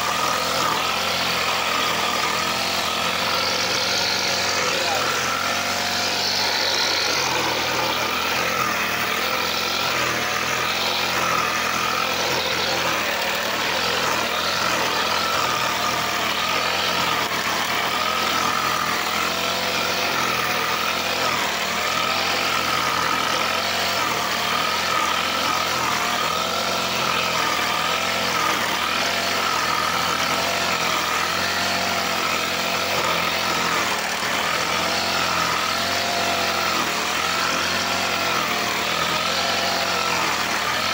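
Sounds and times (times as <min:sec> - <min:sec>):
brush cutter cutting grass: 0:00.0 - 0:40.9.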